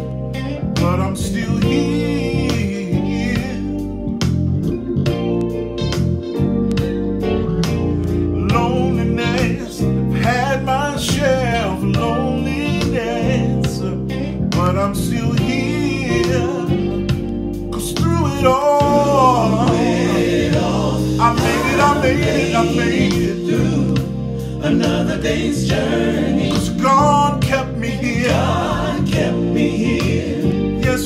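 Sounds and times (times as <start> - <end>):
instrumental accompaniment: 0.0 - 31.0
man singing gospel song: 0.7 - 4.0, 8.3 - 31.0.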